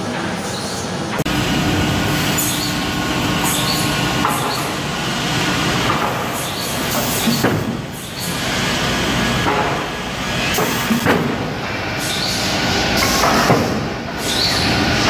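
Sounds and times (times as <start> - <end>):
saw line and conveyors rumbling: 0.0 - 15.0.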